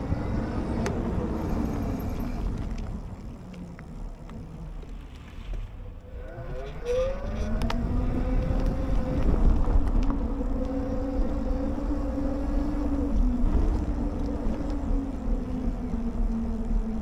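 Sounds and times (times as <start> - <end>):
e-bike motor whining: 0.0 - 17.0
wind and tyre rumble: 0.0 - 17.0.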